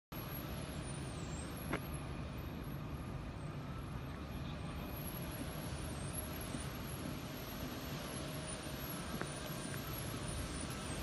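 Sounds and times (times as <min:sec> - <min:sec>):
low rumble of vehicle noise: 0:00.1 - 0:11.0.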